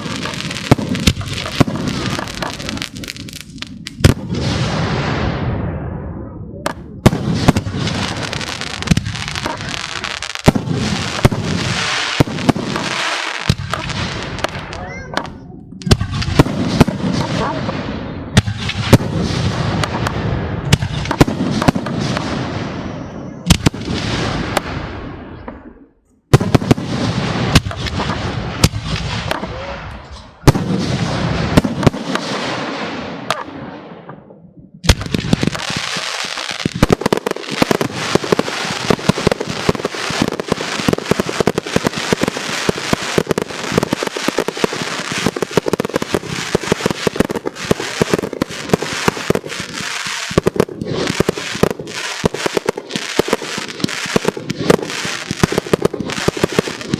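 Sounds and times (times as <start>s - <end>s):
fireworks crackling: 0.0s - 5.4s, 6.6s - 33.6s, 34.8s - 56.9s
fireworks bursting: 0.0s - 56.9s.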